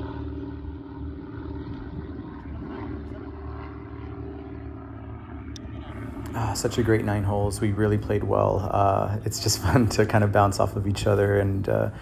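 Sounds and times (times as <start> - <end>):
low rumble: 0.0 - 12.0
steady engine drone: 0.0 - 12.0.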